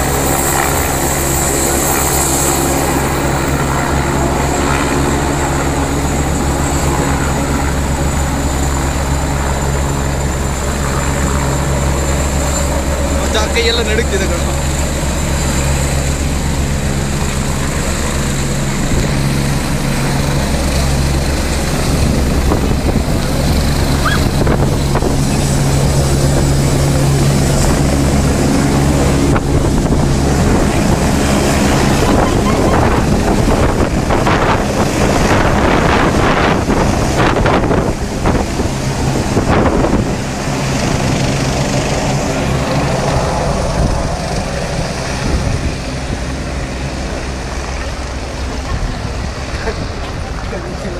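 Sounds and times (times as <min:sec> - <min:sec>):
helicopter rotor and engine: 0:00.0 - 0:50.9
wind gusts on microphone: 0:00.0 - 0:50.9.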